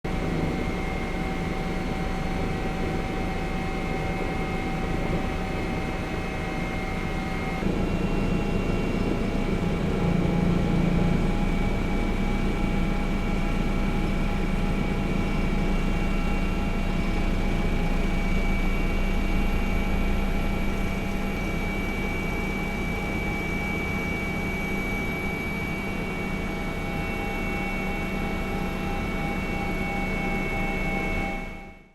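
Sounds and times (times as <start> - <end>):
aircraft engine droning: 0.1 - 31.9.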